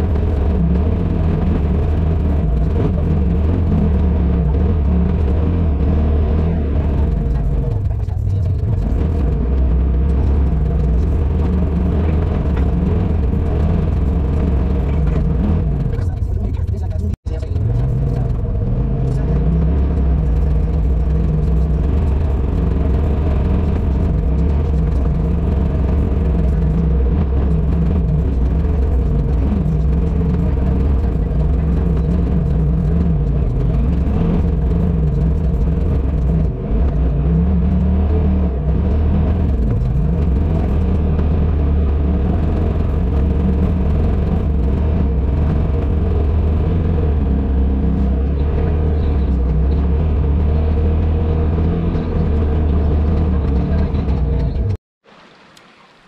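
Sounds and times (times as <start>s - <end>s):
off-road vehicle engine running: 0.0s - 54.8s.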